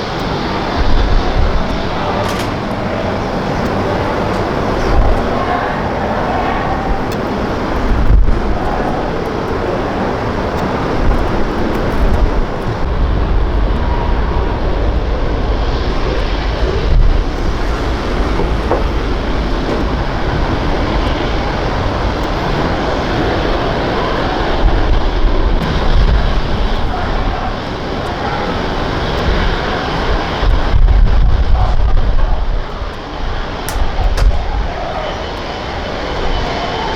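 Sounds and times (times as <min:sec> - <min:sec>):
aircraft engines rumbling: 0:00.0 - 0:36.9.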